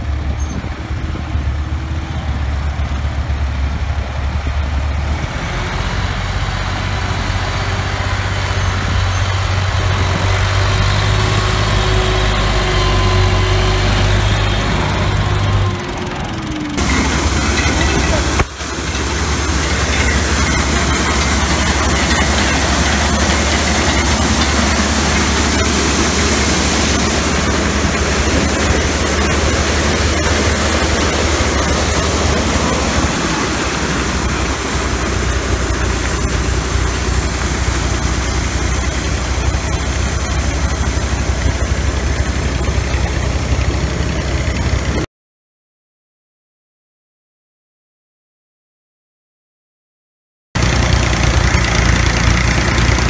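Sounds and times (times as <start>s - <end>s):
grain thresher mechanical noise: 0.0s - 45.1s, 50.6s - 53.0s
tractor engine drone: 0.0s - 45.1s, 50.6s - 53.0s.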